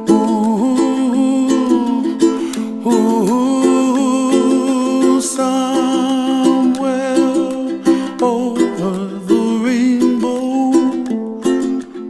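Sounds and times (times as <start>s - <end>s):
plucked strings: 0.0s - 12.0s.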